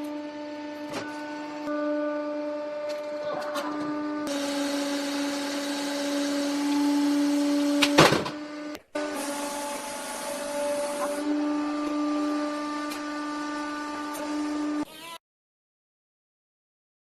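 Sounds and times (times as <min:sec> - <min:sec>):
small machine humming: 0:00.0 - 0:15.2.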